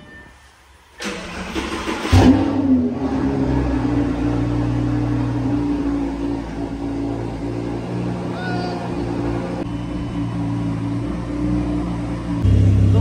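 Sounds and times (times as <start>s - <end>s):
car engine starting and idling: 0.7s - 13.0s.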